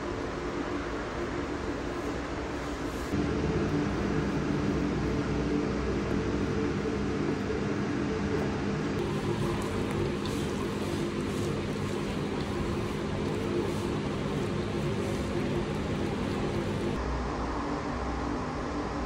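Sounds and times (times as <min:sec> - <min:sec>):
mechanical hum: 0:00.0 - 0:19.0
noisy hiss: 0:00.0 - 0:19.0
deep drone: 0:03.1 - 0:19.0.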